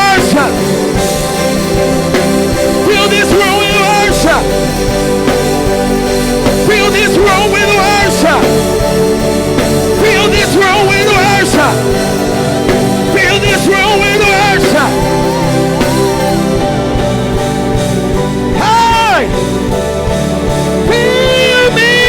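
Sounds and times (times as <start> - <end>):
sustained chords: 0.0 - 22.0.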